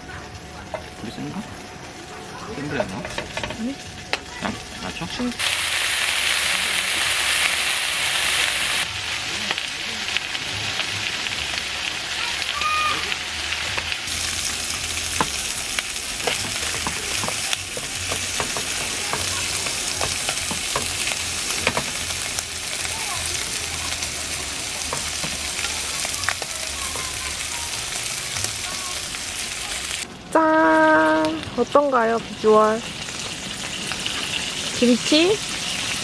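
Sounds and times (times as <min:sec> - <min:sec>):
pork sizzling in a pan: 0:00.0 - 0:30.1, 0:30.8 - 0:36.0.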